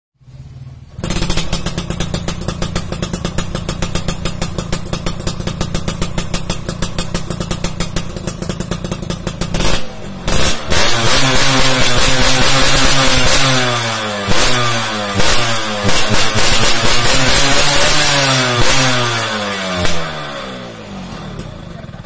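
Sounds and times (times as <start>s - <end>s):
motorcycle engine idling: 0.2s - 22.0s
motorcycle engine revving: 0.2s - 22.0s.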